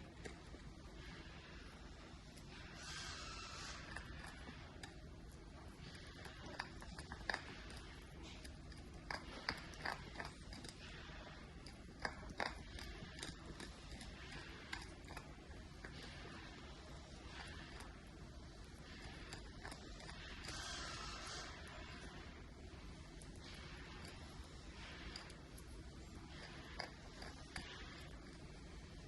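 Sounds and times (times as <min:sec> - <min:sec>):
teeth gnawing on antler: 0:00.0 - 0:29.0.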